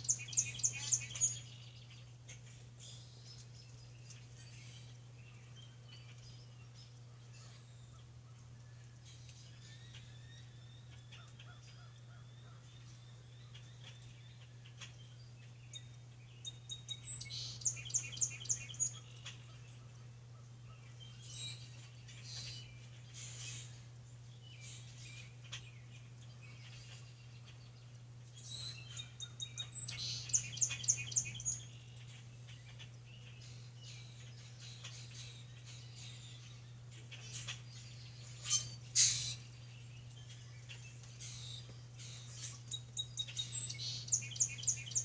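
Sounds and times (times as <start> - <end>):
birds singing: 0.0 - 45.0.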